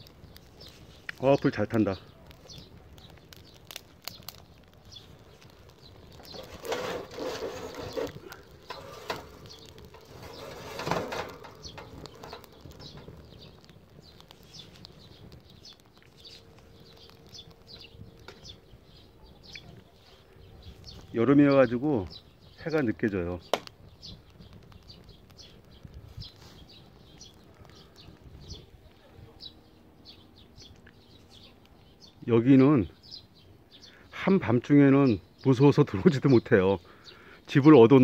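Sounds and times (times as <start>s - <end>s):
fire crackling and popping: 0.0s - 38.0s
fire rushing: 0.0s - 38.0s.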